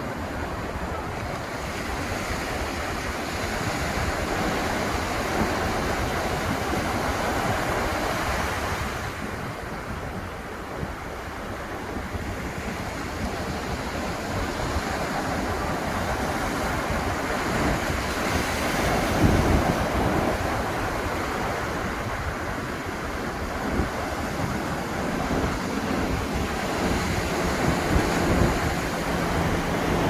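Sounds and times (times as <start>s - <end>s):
surf washing onto beach: 0.0s - 30.0s.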